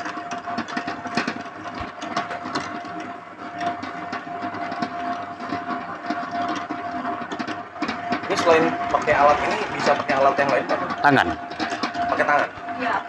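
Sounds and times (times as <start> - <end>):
dough mixer motor whine: 0.0 - 13.0
mixer hook and bowl clatter: 0.0 - 13.0.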